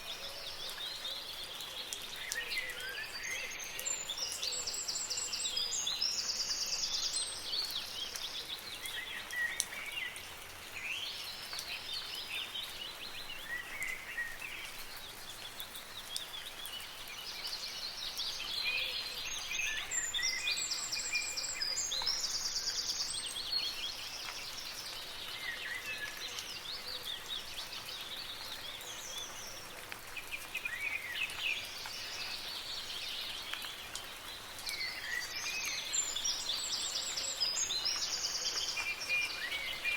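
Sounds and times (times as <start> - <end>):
soft rain hiss: 0.0 - 39.9
songbirds chirping and trilling: 0.0 - 39.9.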